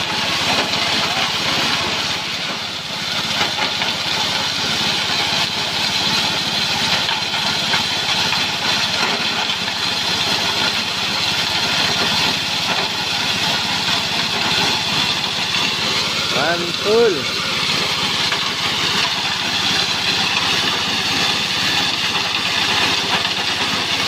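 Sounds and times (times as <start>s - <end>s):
grass chopper engine running: 0.0s - 24.0s.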